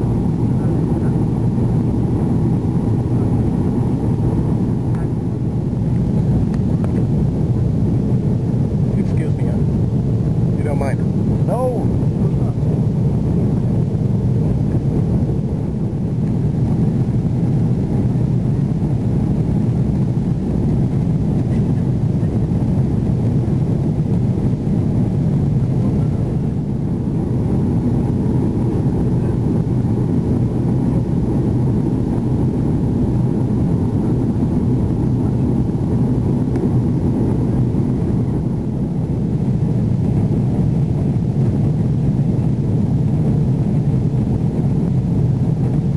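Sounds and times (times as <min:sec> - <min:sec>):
jet engines in cabin: 0:00.0 - 0:45.9.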